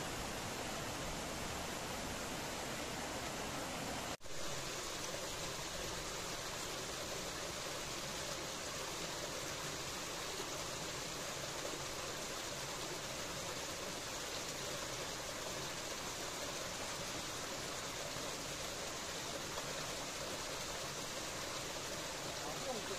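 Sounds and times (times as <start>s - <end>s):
stream rushing over stones: 0.0s - 22.9s.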